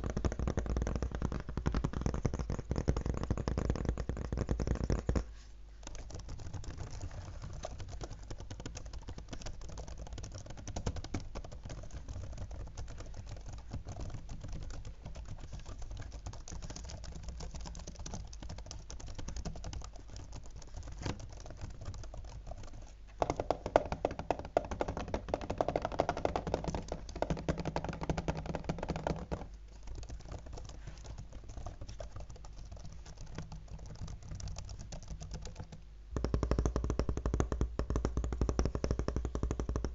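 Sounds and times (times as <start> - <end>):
fingertips tapping laptop keys: 0.0 - 39.9.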